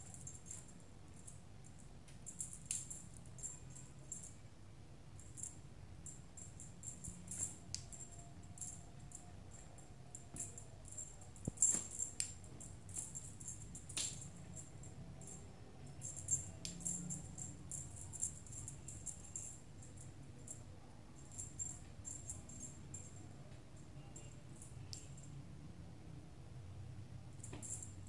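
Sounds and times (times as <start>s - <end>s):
small jingle bells shaking: 0.0s - 4.4s, 5.2s - 23.4s, 27.4s - 28.0s.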